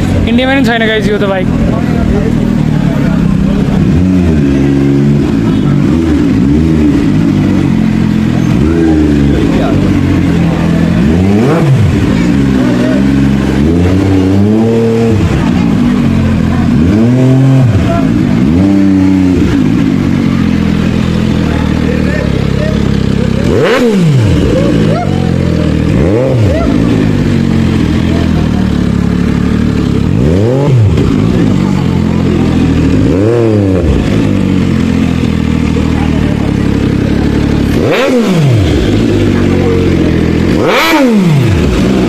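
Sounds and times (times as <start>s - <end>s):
motorcycle engine revving and idling: 0.0s - 42.0s.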